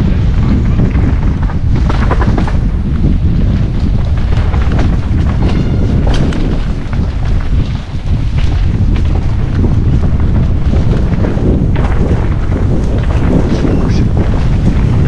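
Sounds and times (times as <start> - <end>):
bike clicks and rattles: 0.0 - 15.0
wind buffeting microphone: 0.0 - 15.0.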